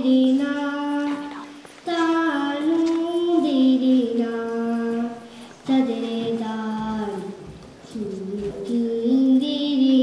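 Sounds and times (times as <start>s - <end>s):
girl singing: 0.0s - 10.0s.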